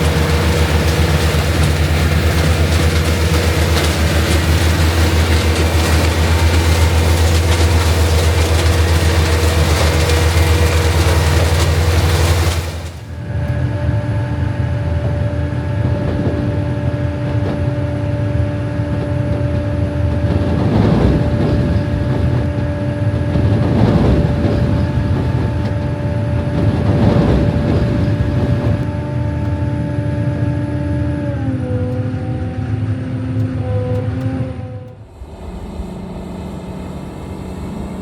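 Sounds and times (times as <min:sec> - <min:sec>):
harvester engine rumbling: 0:00.0 - 0:38.0
multi-tone machine whine: 0:00.0 - 0:38.0.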